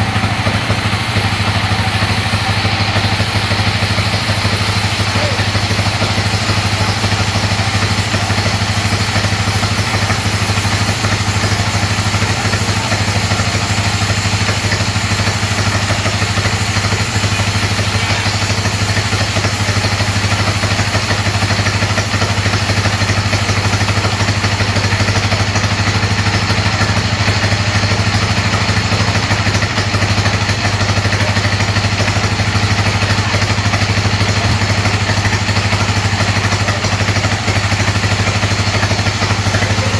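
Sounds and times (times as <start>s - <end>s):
bandsaw machinery humming: 0.0s - 39.9s.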